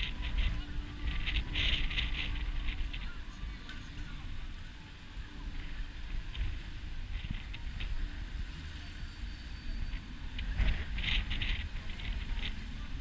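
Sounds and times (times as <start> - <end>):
low rumble of slow cars: 0.0 - 13.0.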